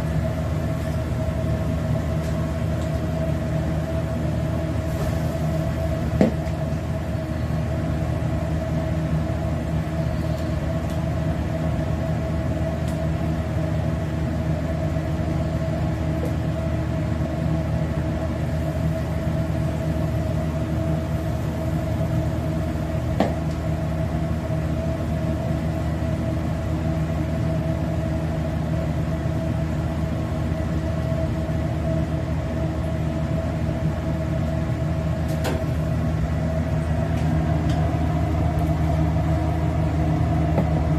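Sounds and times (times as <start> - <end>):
motor or fan humming: 0.0 - 40.9.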